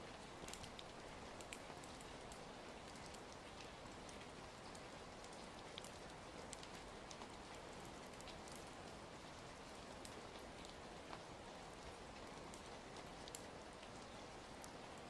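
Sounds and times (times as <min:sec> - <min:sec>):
faint rain hiss: 0:00.0 - 0:15.0
fire crackling: 0:00.0 - 0:15.0.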